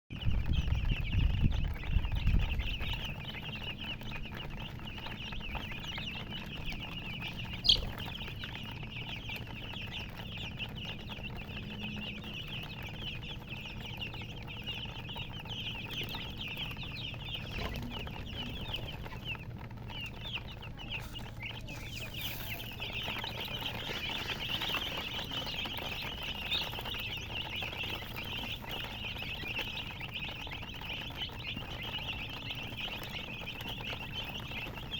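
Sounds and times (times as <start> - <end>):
chicks cheeping: 0.1 - 34.9.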